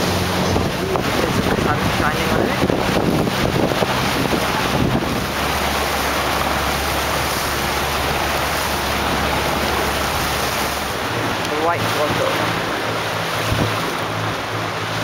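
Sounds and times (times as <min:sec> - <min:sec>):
boat motor humming: 0:00.0 - 0:15.0
water rushing past hull: 0:00.0 - 0:15.0
wind buffeting microphone: 0:00.0 - 0:15.0.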